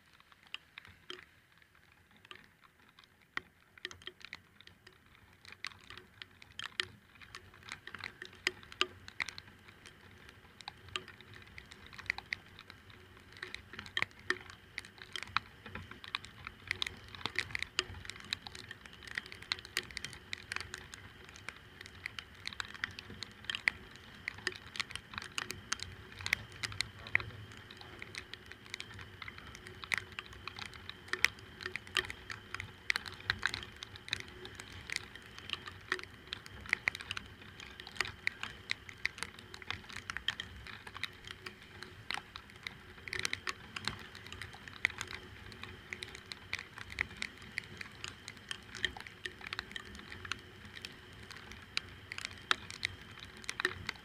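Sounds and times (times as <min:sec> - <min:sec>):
faint steady hum: 0:00.0 - 0:54.0
raindrops ticking on microphone: 0:00.0 - 0:54.0.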